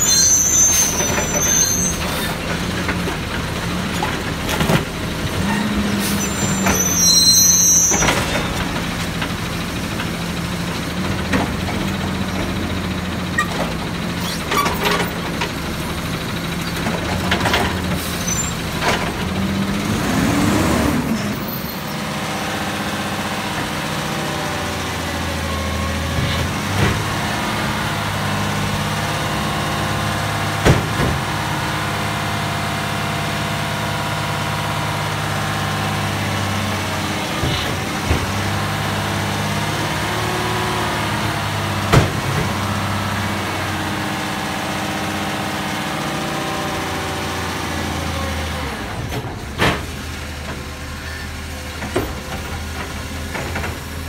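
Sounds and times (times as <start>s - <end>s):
garbage truck diesel engine running: 0.0s - 54.0s.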